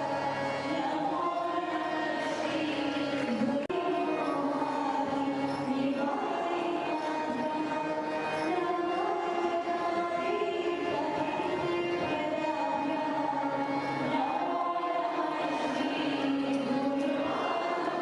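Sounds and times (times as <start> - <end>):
voices singing devotional song: 0.0 - 18.0.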